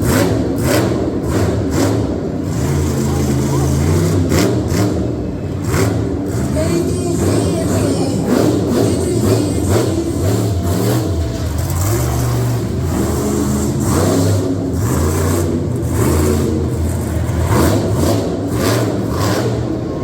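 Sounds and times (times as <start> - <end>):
vehicle engines revving: 0.0 - 20.0.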